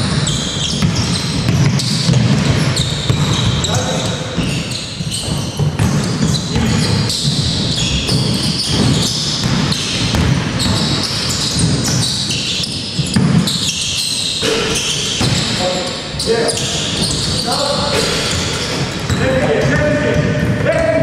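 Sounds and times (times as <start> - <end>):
shoe squeaks: 0.0 - 20.6
basketball bouncing: 0.0 - 20.8.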